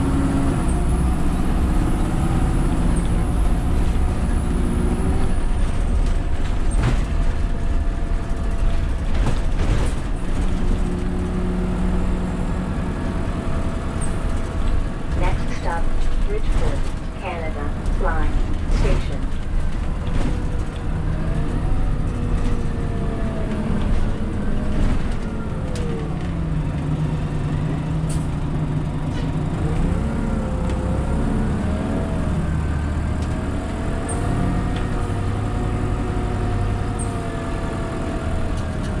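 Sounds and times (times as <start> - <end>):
bus engine rumble: 0.0 - 39.0.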